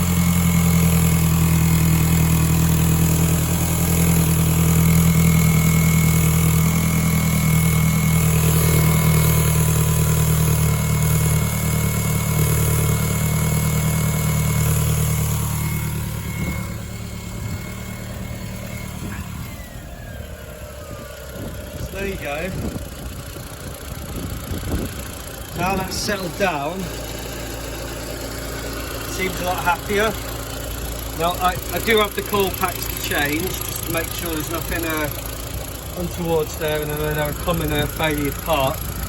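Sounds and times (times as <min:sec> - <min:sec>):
car engine idling unevenly: 0:00.0 - 0:39.0.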